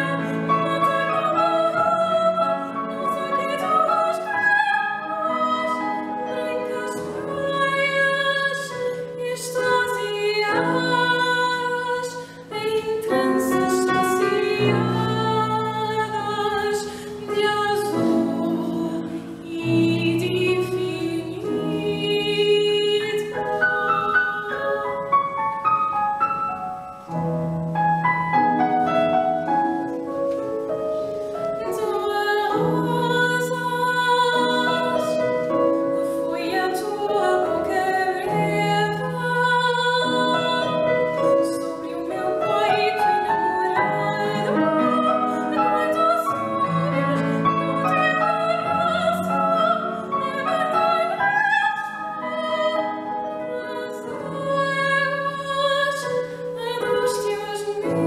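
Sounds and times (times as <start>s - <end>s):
chamber music violin cello piano: 0.0s - 58.0s.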